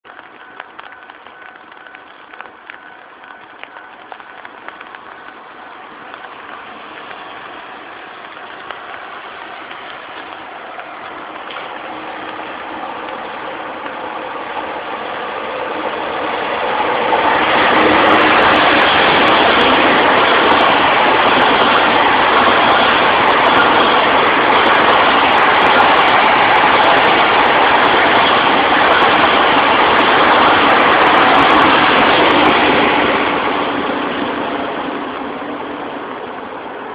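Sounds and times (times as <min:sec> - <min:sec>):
diesel locomotive engine: 0:00.1 - 0:36.9
freight train rumbling past: 0:00.1 - 0:36.9.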